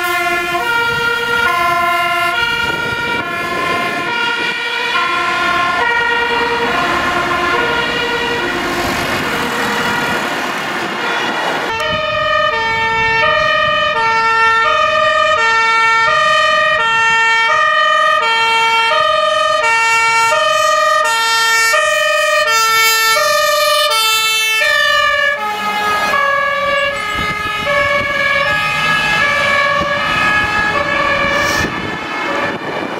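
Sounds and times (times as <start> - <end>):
heavy truck engines passing: 0.0 - 32.9
second siren: 0.0 - 32.9
two-tone fire engine sirens: 0.0 - 32.9.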